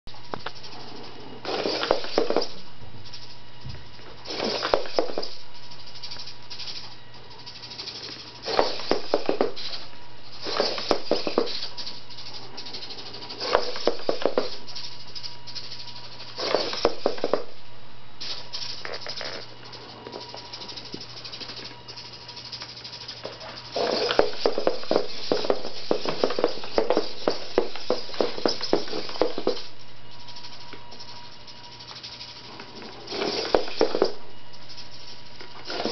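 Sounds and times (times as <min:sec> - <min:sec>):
servos buzzing and rattling: 0:00.1 - 0:35.9.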